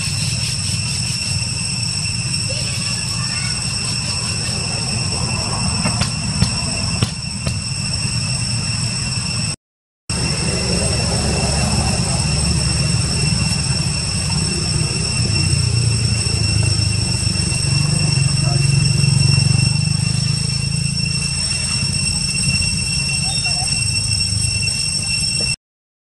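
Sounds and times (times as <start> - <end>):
high-pitched drone: 0.0 - 25.6
low rumble: 1.3 - 23.4.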